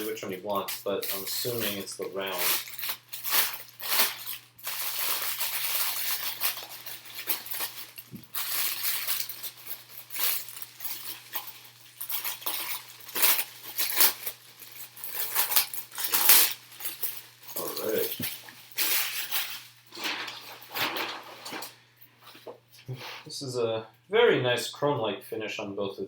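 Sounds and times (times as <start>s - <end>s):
plastic parts clicking and rattling: 0.0s - 21.8s.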